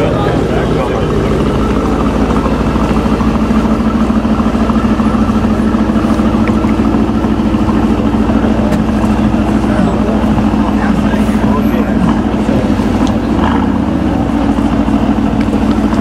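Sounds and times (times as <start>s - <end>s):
sports car engine idling: 0.0s - 16.0s.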